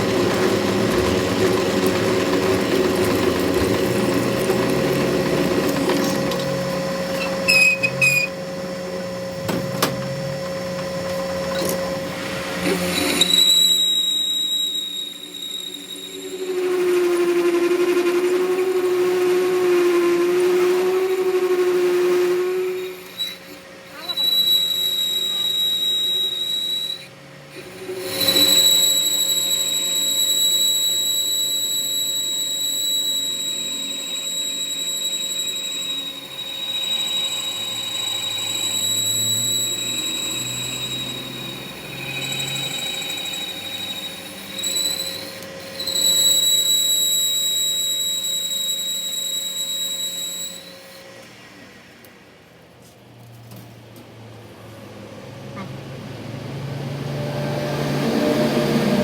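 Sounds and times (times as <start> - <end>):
high-pitched machinery squeal: 0.0 - 51.2, 57.2 - 59.0.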